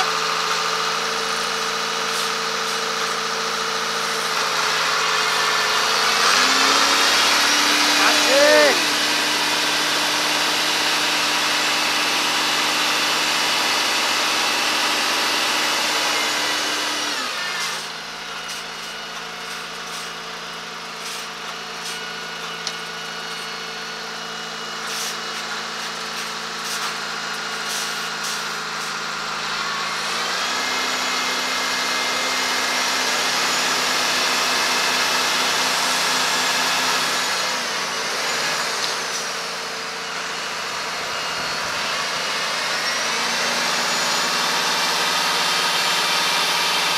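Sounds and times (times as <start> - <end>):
diesel engines under load: 0.0 - 46.9.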